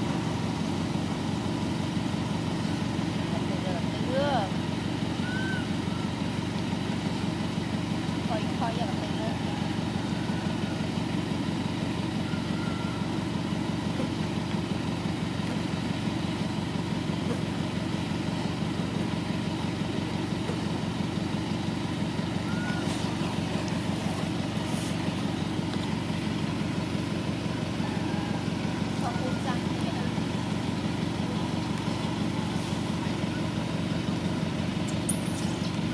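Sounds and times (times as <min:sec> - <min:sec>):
engine idling drone: 0:00.0 - 0:35.9.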